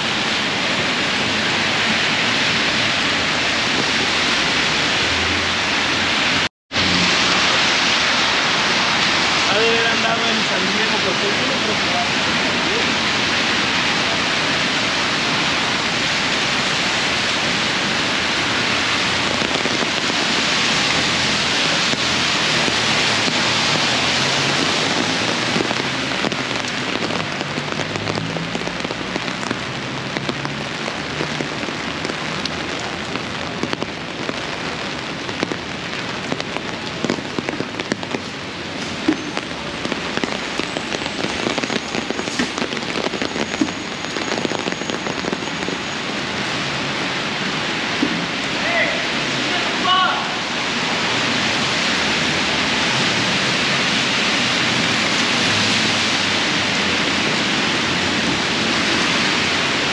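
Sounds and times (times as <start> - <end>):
heavy rain falling: 0.0 - 59.9
sharp raindrop hits: 0.0 - 59.9.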